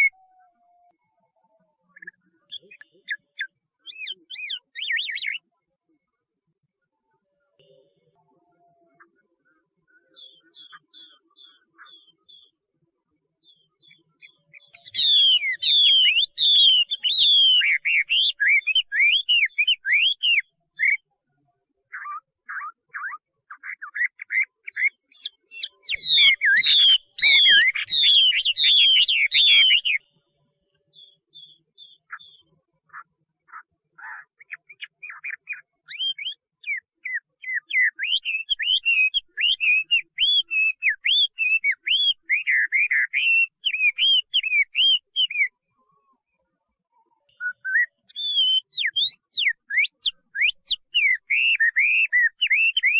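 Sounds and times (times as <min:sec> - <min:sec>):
songbird singing whistles: 0:00.0 - 0:01.1, 0:02.0 - 0:05.5, 0:10.0 - 0:12.6, 0:13.4 - 0:21.1, 0:21.9 - 0:30.1, 0:30.9 - 0:33.6, 0:34.4 - 0:45.6, 0:47.3 - 0:52.9.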